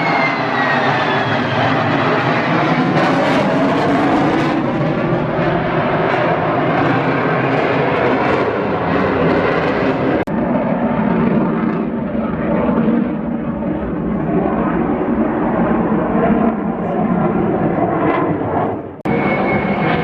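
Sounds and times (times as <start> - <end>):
loud aircraft noise: 0.0 - 20.0.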